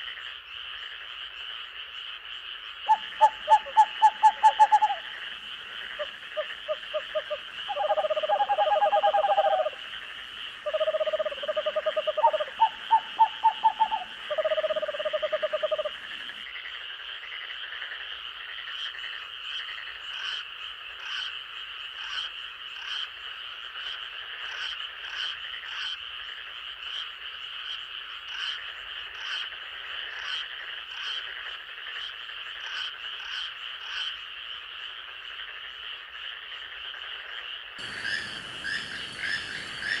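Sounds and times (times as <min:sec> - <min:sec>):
frogs croaking: 0:00.0 - 0:40.0
insect chorus: 0:00.0 - 0:40.0.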